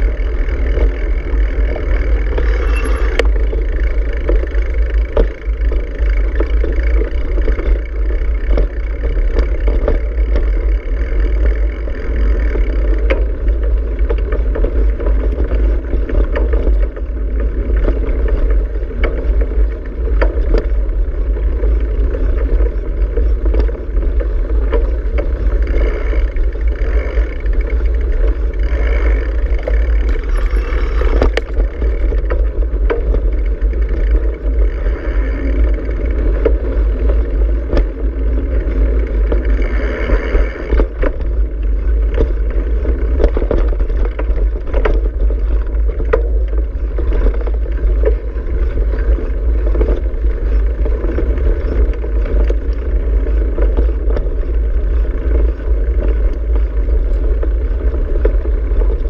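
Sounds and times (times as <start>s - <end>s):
bike knocks and rattles: 0.0s - 59.0s
wind rumble on microphone: 0.0s - 59.0s.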